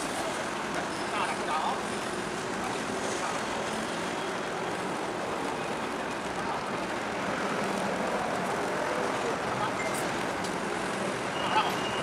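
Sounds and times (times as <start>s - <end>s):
distant engines rumbling: 0.0s - 12.0s
wind: 0.0s - 12.0s.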